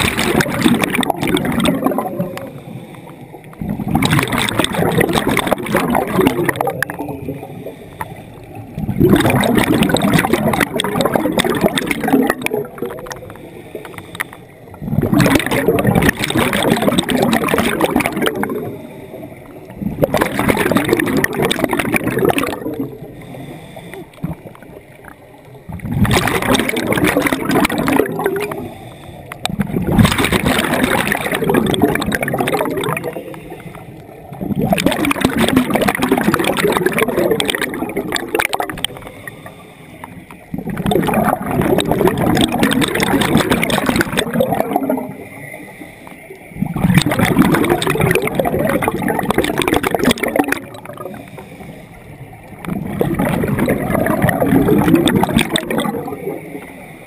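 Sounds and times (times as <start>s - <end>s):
diver's exhaled bubbles: 0.0s - 2.7s, 3.5s - 18.9s, 19.6s - 23.3s, 24.0s - 28.8s, 29.4s - 39.5s, 40.5s - 45.3s, 46.6s - 51.5s, 52.5s - 56.7s.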